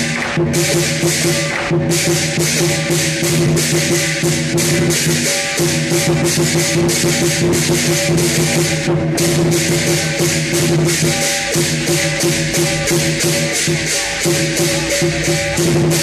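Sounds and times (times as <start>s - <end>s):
big drum beating: 0.0s - 16.0s
cymbal crashes: 0.0s - 16.0s
gong ringing: 0.0s - 16.0s.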